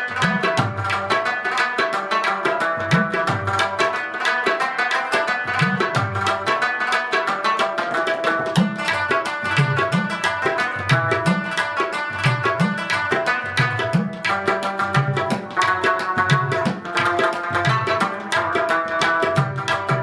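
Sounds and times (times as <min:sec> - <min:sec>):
plucked string melody: 0:00.0 - 0:20.0
tabla rhythm: 0:00.0 - 0:20.0.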